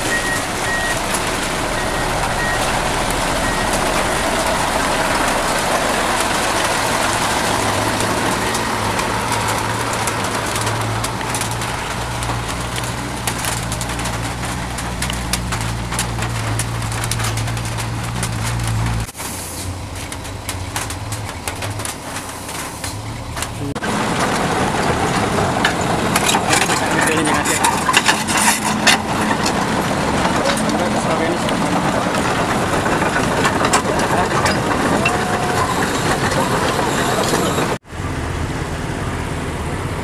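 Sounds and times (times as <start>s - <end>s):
diesel engine running: 0.0s - 40.0s
outdoor noise: 0.0s - 40.0s.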